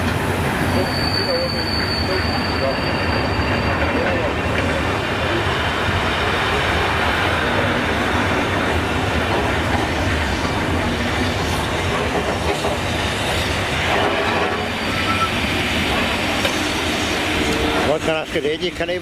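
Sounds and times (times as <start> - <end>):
train wheels rumbling and clattering: 0.0 - 19.0.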